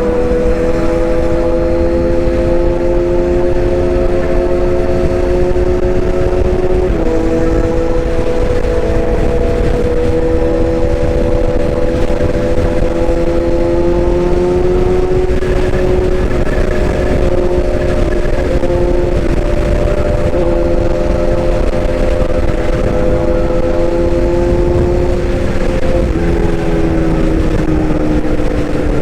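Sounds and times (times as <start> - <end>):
whining tones: 0.0 - 29.0
excavator engine rumble: 4.9 - 29.0.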